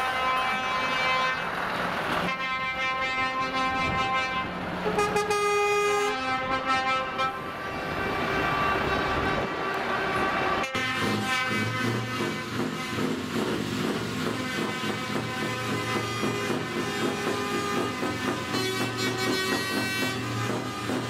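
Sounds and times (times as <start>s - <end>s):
truck air horns blasting: 0.0s - 1.6s, 2.2s - 13.3s, 14.2s - 21.0s
trucks driving: 0.0s - 21.0s.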